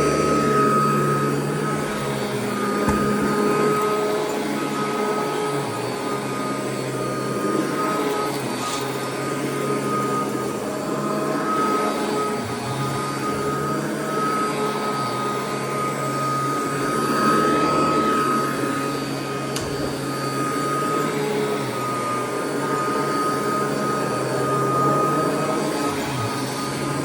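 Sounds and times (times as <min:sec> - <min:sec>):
vacuum cleaner running on carpet: 0:00.0 - 0:27.0.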